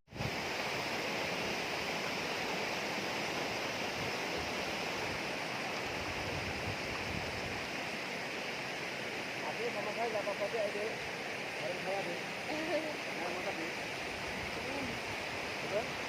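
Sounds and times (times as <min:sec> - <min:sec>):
flowing water rushing: 0:00.1 - 0:16.0.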